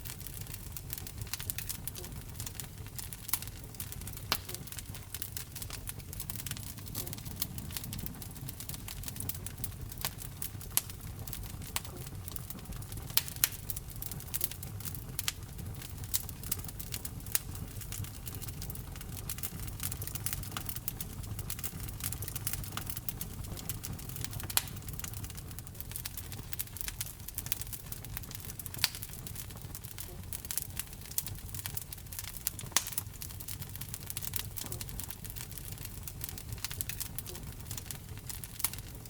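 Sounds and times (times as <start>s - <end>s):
fire pops and snaps: 0.0s - 39.0s
low rumble of fire flames: 0.0s - 39.0s.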